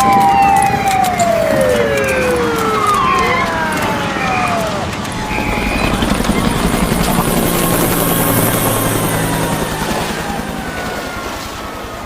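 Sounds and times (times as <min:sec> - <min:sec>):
faint long falling tones: 0:00.0 - 0:12.0
helicopter rotor beating: 0:00.0 - 0:12.0.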